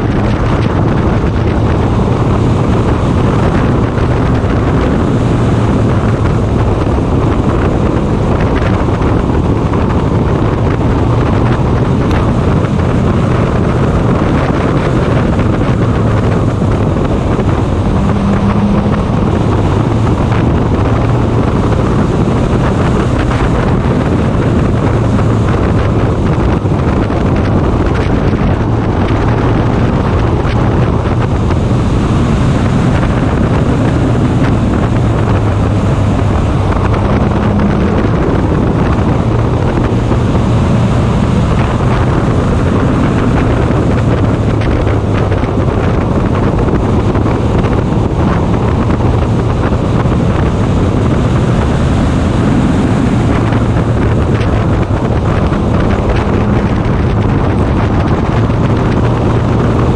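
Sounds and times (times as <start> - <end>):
constant low drone: 0.0 - 59.9
race car engine running: 0.0 - 59.9
wind buffeting microphone: 0.0 - 59.9.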